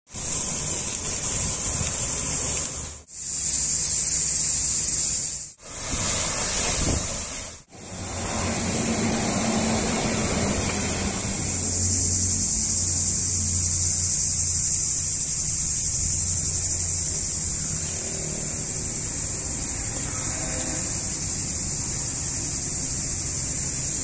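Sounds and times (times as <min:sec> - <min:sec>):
pressure washer jet hissing: 0:00.1 - 0:24.0.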